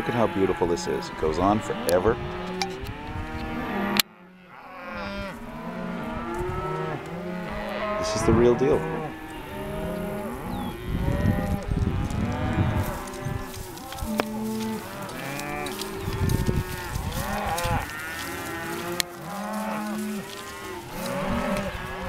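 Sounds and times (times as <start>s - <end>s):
cows mooing: 0.0s - 22.0s.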